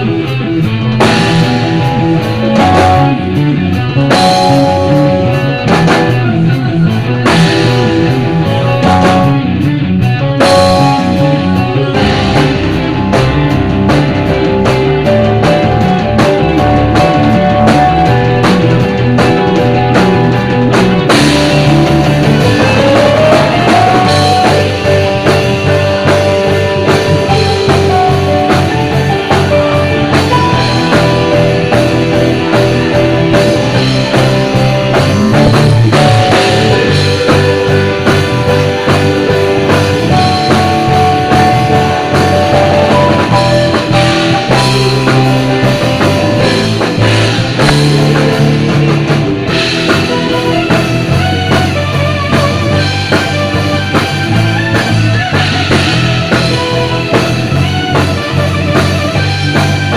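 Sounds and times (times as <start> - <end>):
rock band playing: 0.0 - 59.9.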